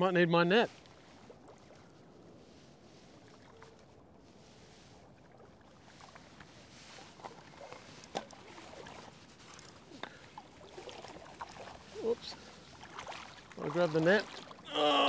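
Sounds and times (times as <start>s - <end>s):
lake water lapping: 0.4s - 15.0s
small splashes: 0.7s - 15.0s.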